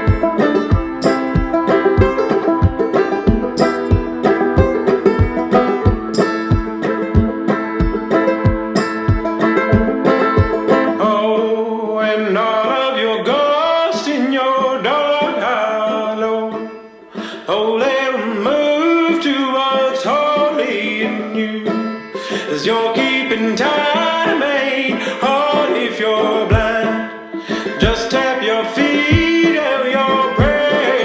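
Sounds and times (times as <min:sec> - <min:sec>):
banjo picking: 0:00.0 - 0:31.0
bluegrass song: 0:00.0 - 0:31.0.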